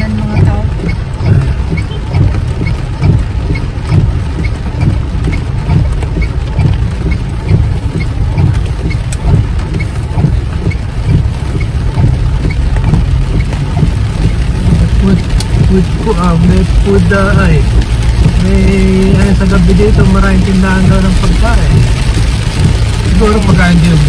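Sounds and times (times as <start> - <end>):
car cabin rumble: 0.0 - 24.0
faint regular ticking: 0.0 - 24.0.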